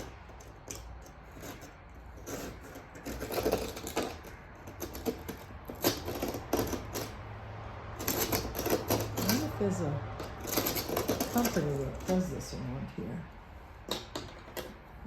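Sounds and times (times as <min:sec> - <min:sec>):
taps and scraping on wooden window: 0:00.0 - 0:07.2, 0:07.9 - 0:12.6, 0:13.7 - 0:14.9.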